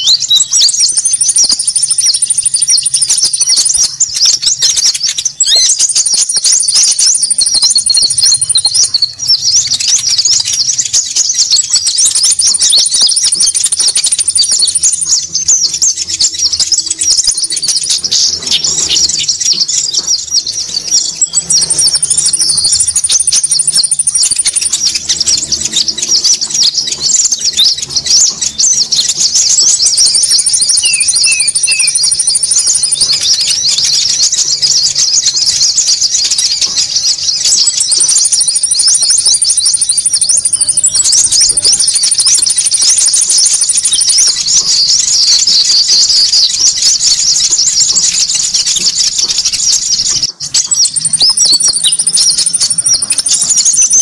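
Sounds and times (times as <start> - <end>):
high even bird trill: 0.0 - 54.0
small songbirds chirping: 0.0 - 54.0.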